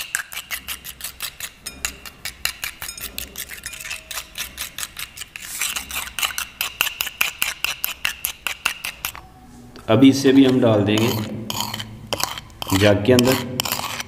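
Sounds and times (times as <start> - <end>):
spoon beating eggs in a bowl: 0.0 - 9.2, 10.1 - 14.0.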